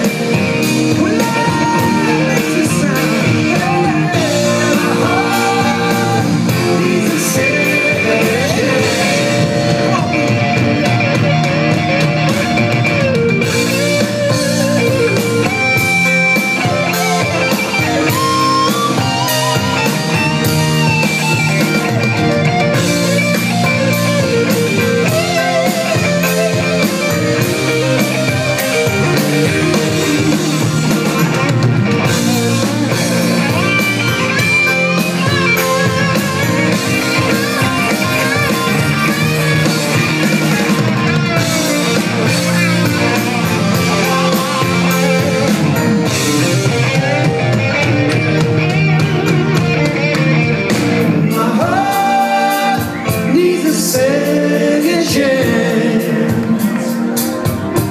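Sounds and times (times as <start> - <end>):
bending guitar melody: 0.0 - 57.9
rock band playing: 0.0 - 57.9.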